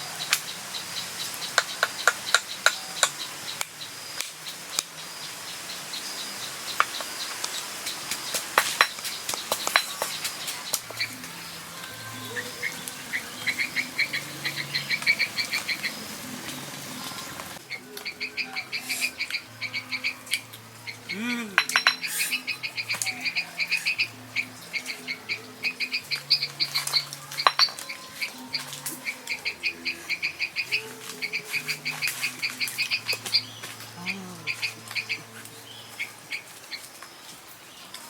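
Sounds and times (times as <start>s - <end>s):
frogs calling in chorus: 0.0s - 37.0s.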